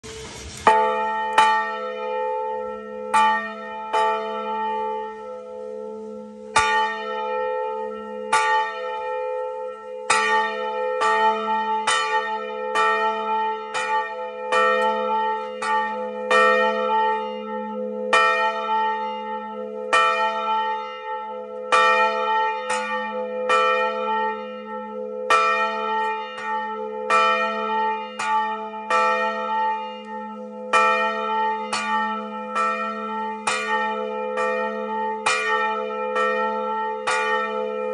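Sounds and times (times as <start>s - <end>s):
church bells ringing: 0.0s - 37.9s.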